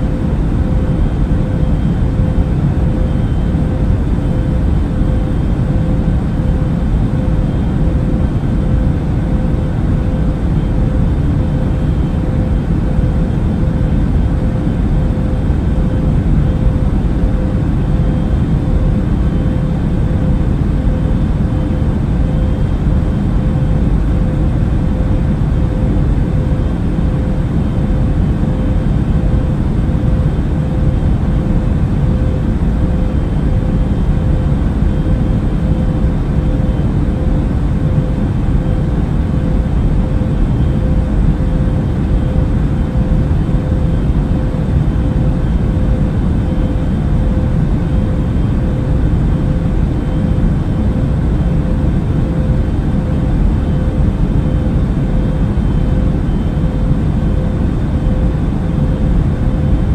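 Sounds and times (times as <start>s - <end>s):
airliner cabin engine rush: 0.0s - 59.9s
constant mid-pitched hum: 0.0s - 59.9s.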